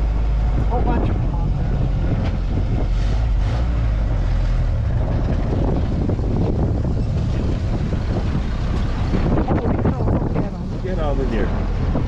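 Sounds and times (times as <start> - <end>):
engine running with low drone: 0.0 - 12.0
wind buffeting microphone: 0.0 - 12.0.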